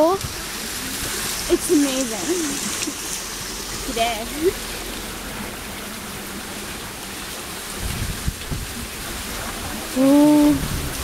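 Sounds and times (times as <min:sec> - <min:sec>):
water wheel splashing: 0:00.0 - 0:11.0.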